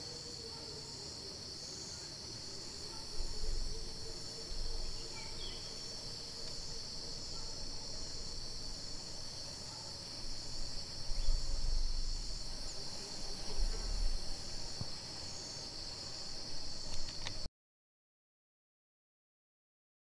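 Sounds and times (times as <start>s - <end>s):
insect chorus: 0.0s - 17.5s.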